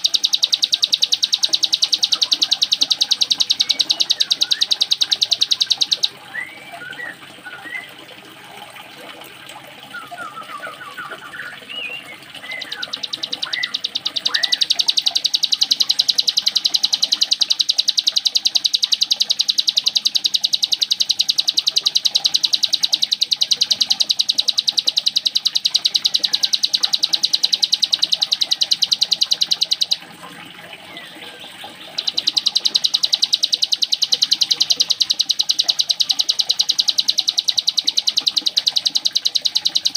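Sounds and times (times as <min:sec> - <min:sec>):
bird chirps: 0:00.0 - 0:07.9, 0:09.9 - 0:30.1, 0:30.8 - 0:39.9
bird rattling song: 0:00.0 - 0:07.9, 0:10.0 - 0:30.2, 0:30.9 - 0:39.9.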